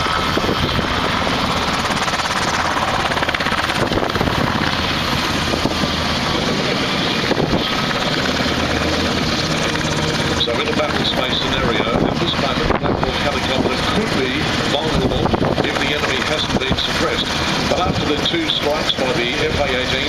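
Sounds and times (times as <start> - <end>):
helicopter rotors and turbines: 0.0 - 20.0.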